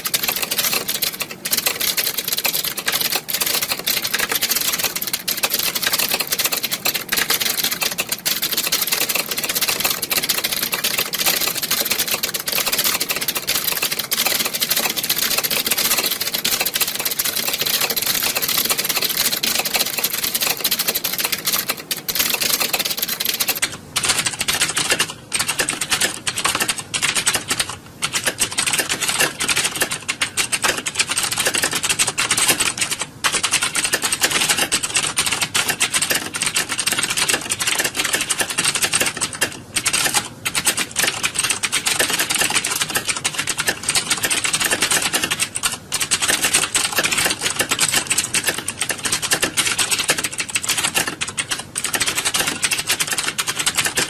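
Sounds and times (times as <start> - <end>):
many keyboards typing: 0.0 - 54.0.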